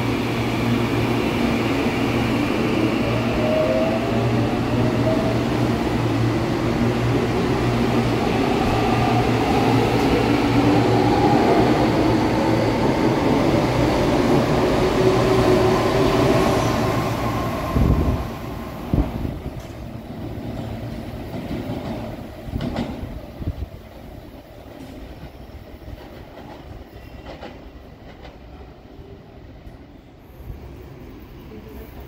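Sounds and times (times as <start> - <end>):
distant train approaching: 0.0 - 32.0.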